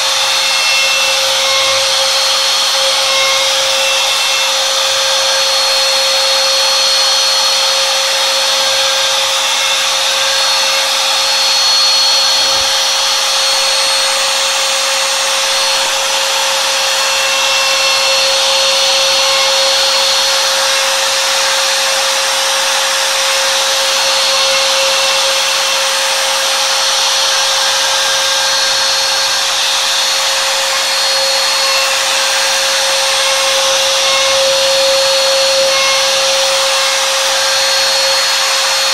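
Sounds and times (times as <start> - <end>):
router bit cutting wood: 0.0 - 38.9
router whining: 0.0 - 38.9.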